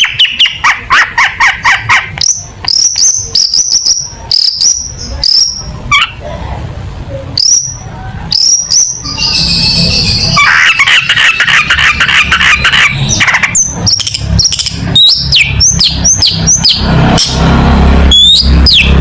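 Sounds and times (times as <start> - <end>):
bird singing: 0.0 - 6.2, 7.3 - 19.0.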